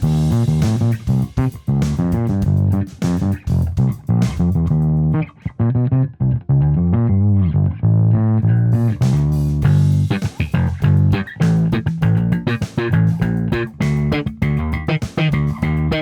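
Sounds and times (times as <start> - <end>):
electric bass playing: 0.0 - 16.0.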